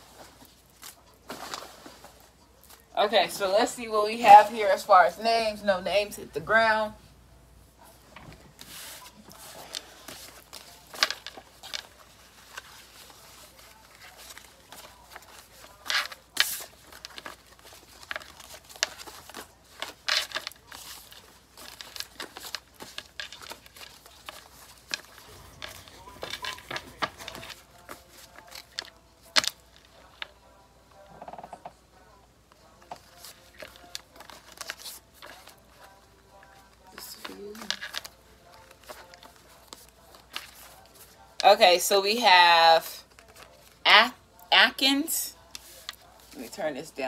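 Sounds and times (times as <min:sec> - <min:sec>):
paper shuffling and rustling: 0:00.0 - 0:06.1, 0:07.8 - 0:30.5, 0:32.5 - 0:42.2, 0:42.8 - 0:43.8, 0:45.4 - 0:47.0.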